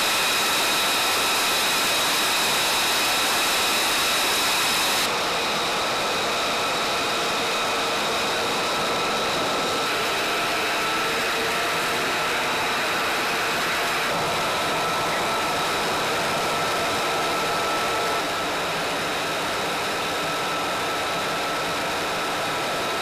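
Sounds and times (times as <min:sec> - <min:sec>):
jet engine with high whine: 0:00.0 - 0:23.0.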